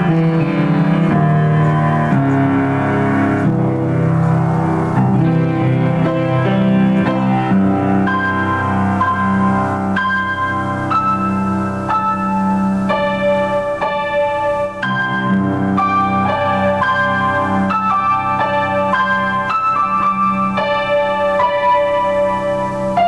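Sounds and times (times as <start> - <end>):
solo grand piano improvisation: 0.0 - 23.0.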